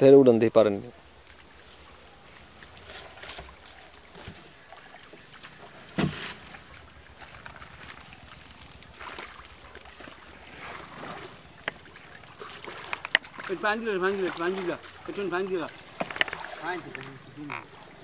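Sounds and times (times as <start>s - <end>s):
water splashing and sloshing: 0.7s - 18.0s.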